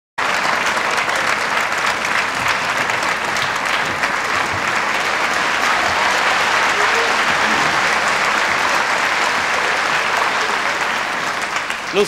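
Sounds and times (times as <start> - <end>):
audience applauding: 0.2 - 12.0.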